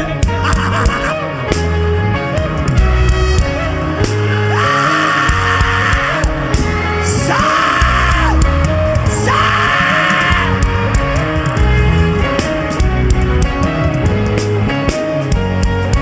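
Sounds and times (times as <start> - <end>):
gospel band playing: 0.0 - 16.0.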